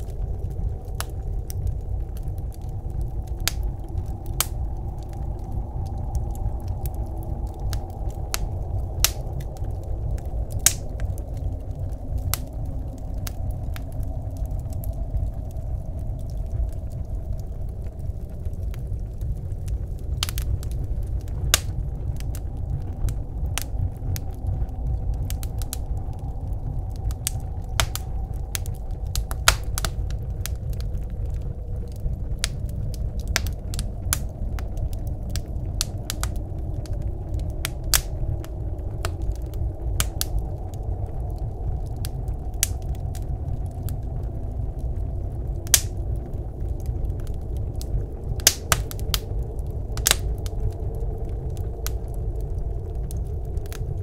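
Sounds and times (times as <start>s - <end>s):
low rumble of wind: 0.0s - 54.0s
wood fire crackling and popping: 0.0s - 54.0s.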